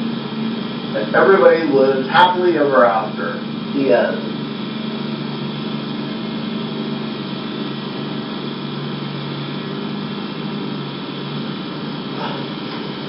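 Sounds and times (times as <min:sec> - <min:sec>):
steady hum with hiss: 0:00.0 - 0:13.0.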